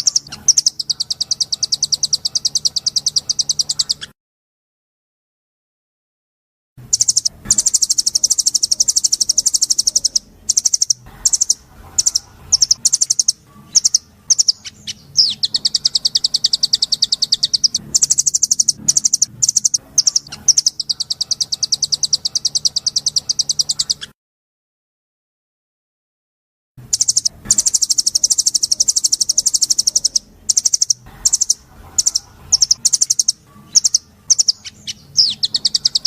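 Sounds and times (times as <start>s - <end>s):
songbird high-pitched trill: 0.0s - 4.1s, 6.9s - 24.1s, 26.9s - 36.0s.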